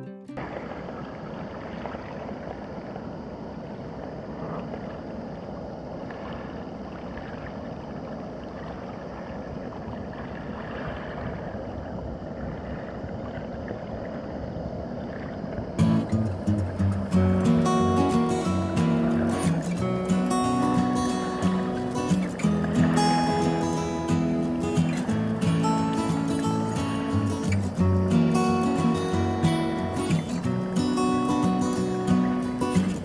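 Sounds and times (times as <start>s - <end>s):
water washing on shore: 0.0s - 3.4s, 4.2s - 33.0s
wind: 0.0s - 33.0s.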